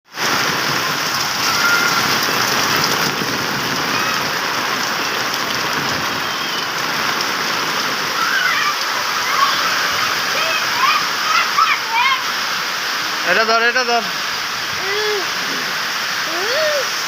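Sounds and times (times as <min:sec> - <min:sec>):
heavy rain falling: 0:00.1 - 0:17.0.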